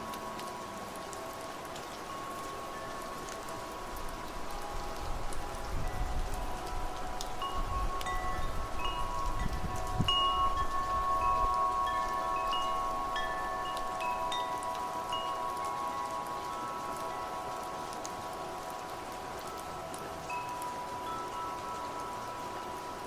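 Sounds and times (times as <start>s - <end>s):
metal wind chimes ringing: 0.0s - 23.0s.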